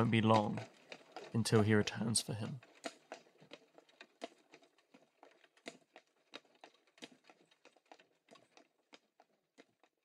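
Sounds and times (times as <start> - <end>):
faint irregular clicking and knocking: 0.0 - 10.0.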